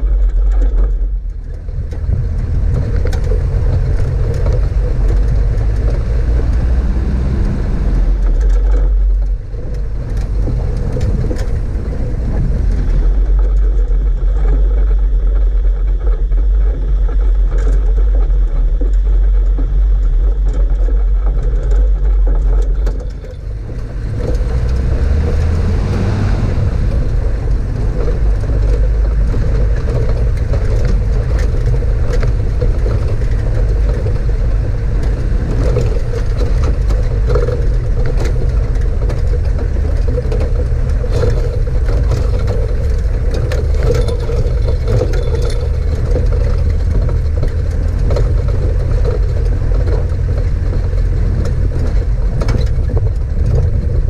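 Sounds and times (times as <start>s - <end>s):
tyres rumbling on dirt track: 0.0s - 54.0s
vehicle engine running: 0.0s - 54.0s
wind: 0.0s - 54.0s.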